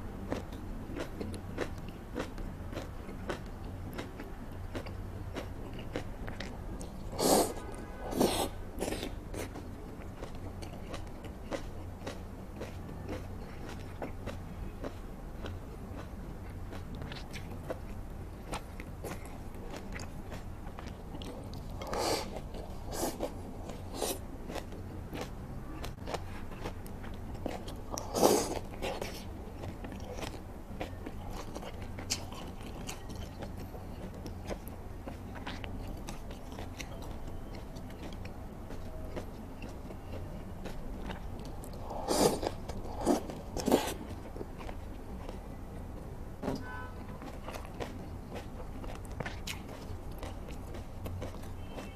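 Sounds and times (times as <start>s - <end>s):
wet chewing and mouth smacks: 0.2s - 45.5s, 47.2s - 51.9s.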